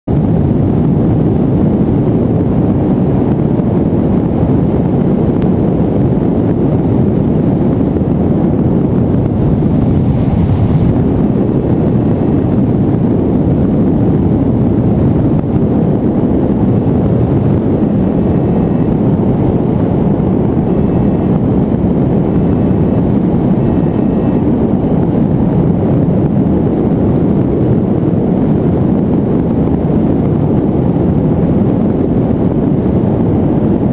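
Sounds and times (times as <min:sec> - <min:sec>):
wind noise on microphone: 0:00.0 - 0:33.9.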